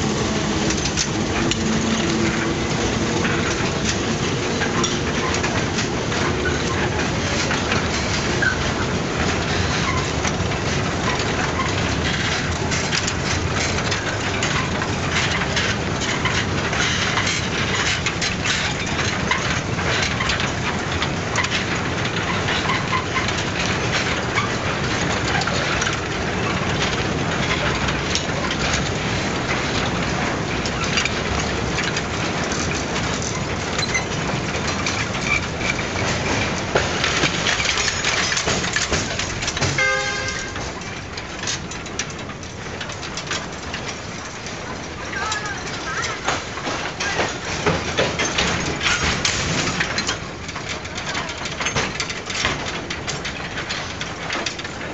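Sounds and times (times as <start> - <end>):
freight train wagons clattering: 0.0 - 54.9.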